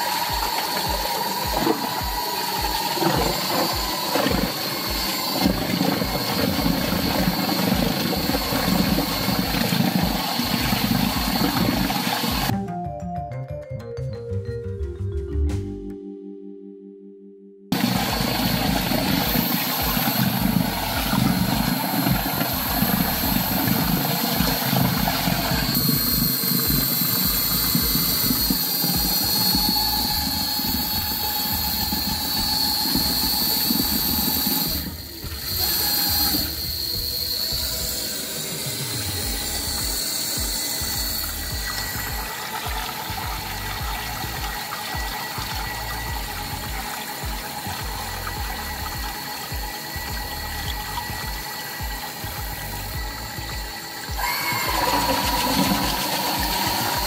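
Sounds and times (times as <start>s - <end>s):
air-driven stirrer high tone and hiss: 0.0s - 12.5s, 17.7s - 57.0s
water churning in a tank: 0.0s - 12.5s, 17.7s - 57.0s.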